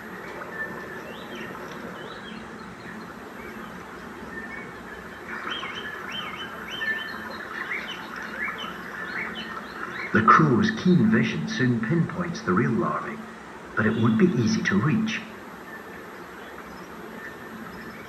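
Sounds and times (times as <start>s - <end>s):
birds chirping: 0.0s - 18.0s
steady background hiss: 0.0s - 18.0s.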